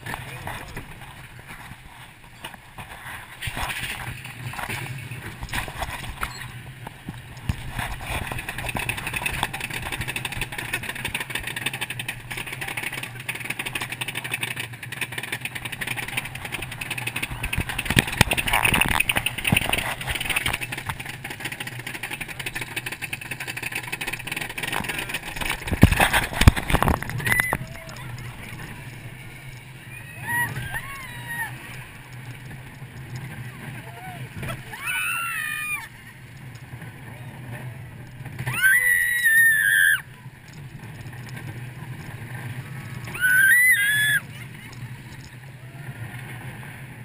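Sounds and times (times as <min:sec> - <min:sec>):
roller coaster lift chain clicking: 0:00.0 - 0:46.9.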